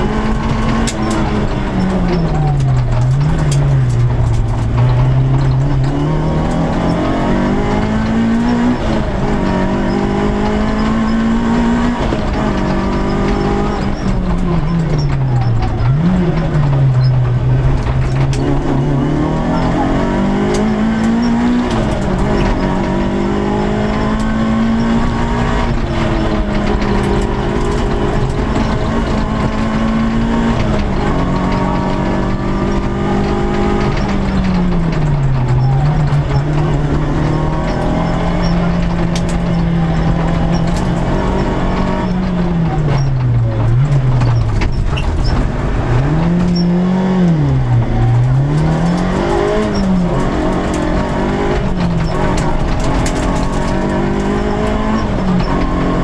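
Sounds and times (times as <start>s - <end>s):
rally car engine running hard: 0.0s - 56.0s.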